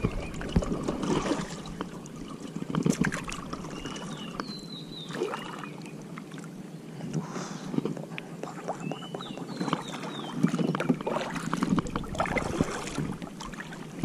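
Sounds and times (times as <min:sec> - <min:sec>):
paddle splashing in water: 0:00.0 - 0:06.4, 0:07.2 - 0:14.0
water trickling off paddle: 0:00.0 - 0:06.5, 0:07.2 - 0:14.0.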